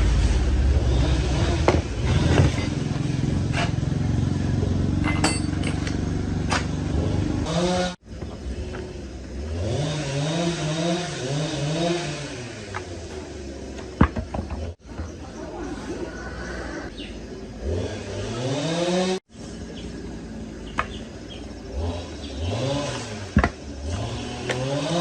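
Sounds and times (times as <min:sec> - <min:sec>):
small engine revving: 0:00.0 - 0:05.2, 0:05.8 - 0:14.8, 0:15.8 - 0:25.0.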